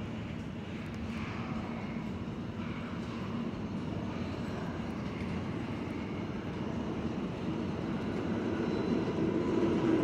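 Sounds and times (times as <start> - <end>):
constant hum: 0.0 - 10.0
subway train rumble: 0.0 - 10.0.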